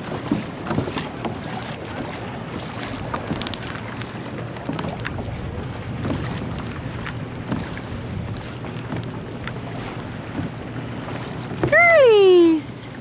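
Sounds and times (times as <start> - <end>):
clicks and splashes on hull: 0.0 - 13.0
water lapping: 0.0 - 13.0
wind rumble on microphone: 0.0 - 13.0.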